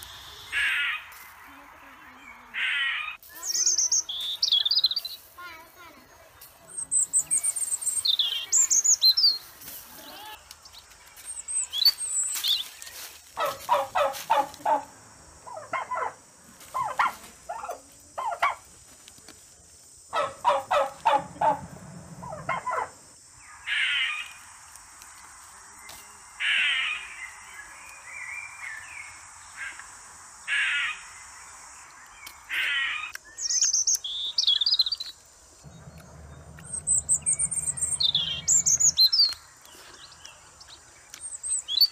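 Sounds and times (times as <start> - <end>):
wild birds chirping: 0.0 - 18.7, 20.0 - 41.9.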